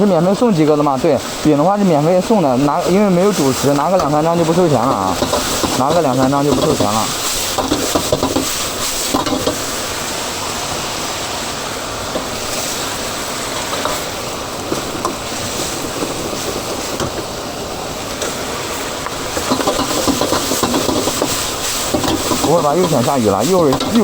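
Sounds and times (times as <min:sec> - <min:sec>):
chicken sizzling in a wok: 0:00.8 - 0:24.0.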